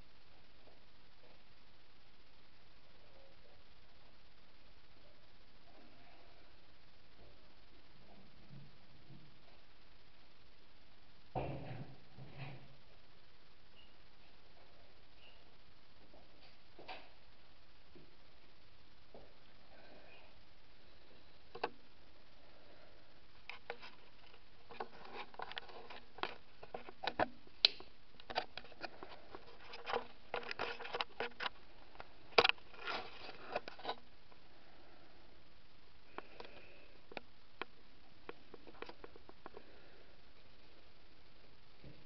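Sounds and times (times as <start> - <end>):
steady low hiss: 0.0 - 42.0.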